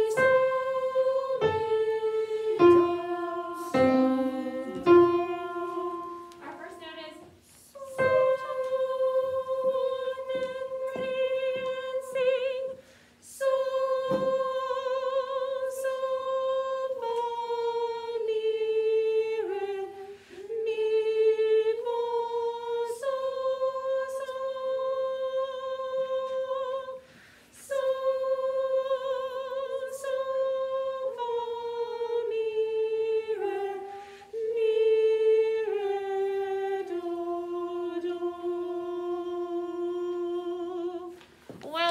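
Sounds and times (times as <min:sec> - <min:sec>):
woman singing unaccompanied: 0:00.0 - 0:20.0, 0:27.6 - 0:41.9.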